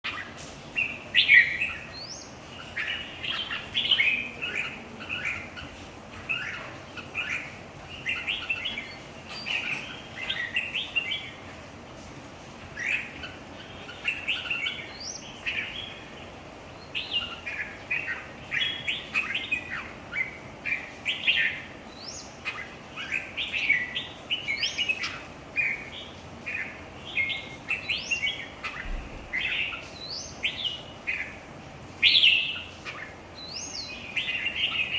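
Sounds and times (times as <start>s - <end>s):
bird warbling song: 0.0s - 34.9s.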